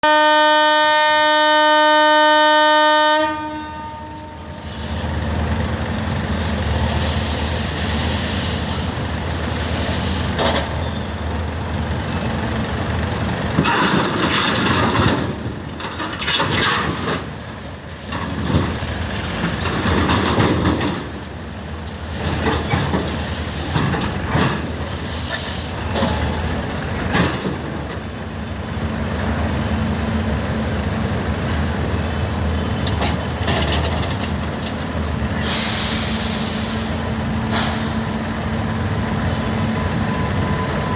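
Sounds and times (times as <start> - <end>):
electric locomotive hum: 0.0 - 40.9.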